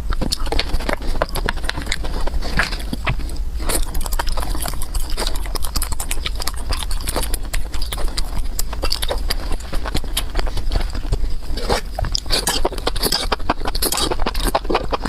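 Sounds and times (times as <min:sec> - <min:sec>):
mouth clicks and crunches: 0:00.0 - 0:15.0
wet chewing and smacking: 0:00.0 - 0:15.0.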